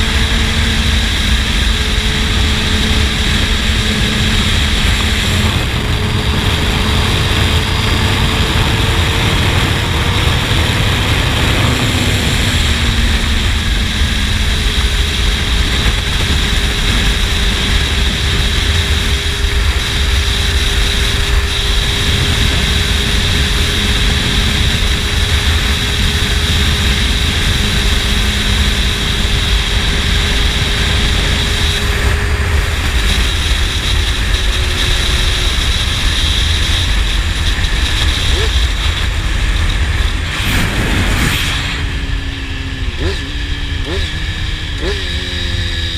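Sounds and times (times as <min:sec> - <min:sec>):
heavy wind rush on microphone: 0:00.0 - 0:45.9
motorcycle engine drone: 0:00.0 - 0:45.9.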